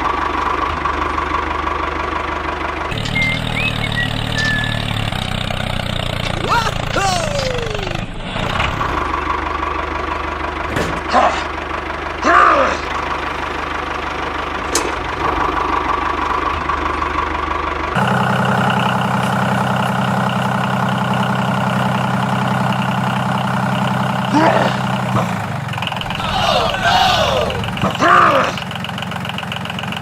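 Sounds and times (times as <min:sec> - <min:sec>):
small engine running: 0:00.0 - 0:10.7, 0:11.5 - 0:30.0.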